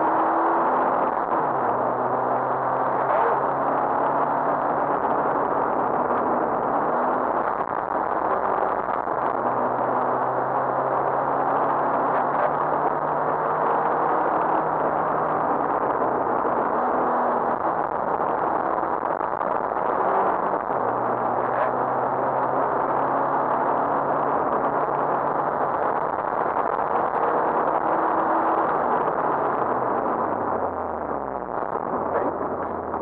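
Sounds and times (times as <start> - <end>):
car engine shifting gears: 0.0 - 33.0
road noise: 0.0 - 33.0.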